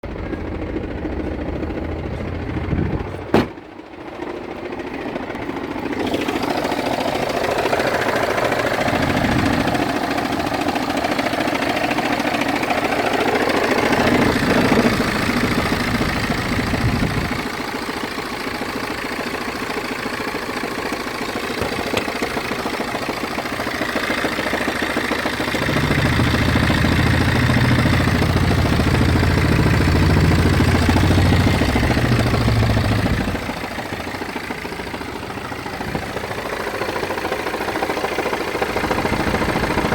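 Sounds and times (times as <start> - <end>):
diesel engine idling: 0.0 - 39.9
grinding juddering rattle: 0.0 - 39.9.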